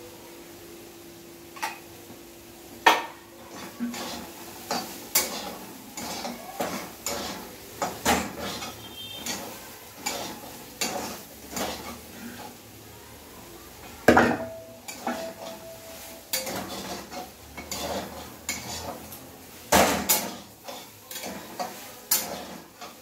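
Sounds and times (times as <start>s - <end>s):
food frying in oil: 0.0s - 23.0s
spoon scraping and knocking pan: 2.8s - 12.6s, 14.0s - 23.0s.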